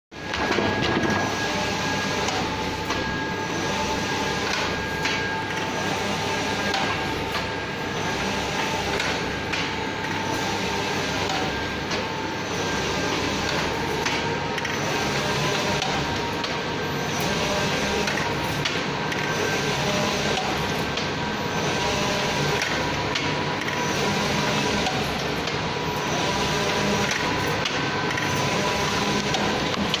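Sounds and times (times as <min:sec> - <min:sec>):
printer carriage whirring: 0:00.1 - 0:30.0.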